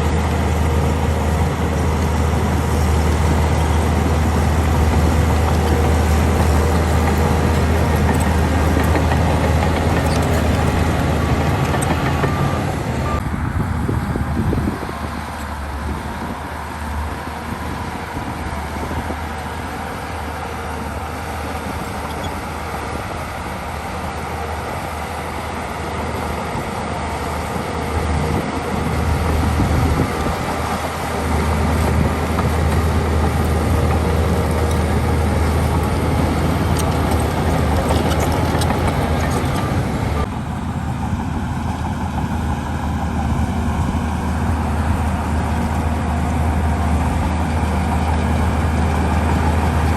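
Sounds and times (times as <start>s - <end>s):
heavy diesel engine droning: 0.0s - 49.9s.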